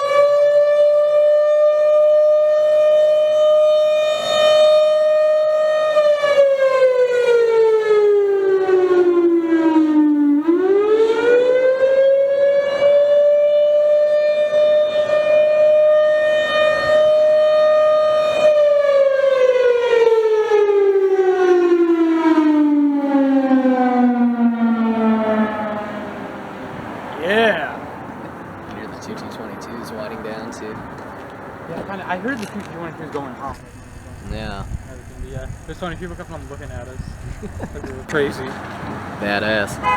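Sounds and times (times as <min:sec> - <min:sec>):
warning siren wailing: 0:00.0 - 0:28.0, 0:33.5 - 0:38.1.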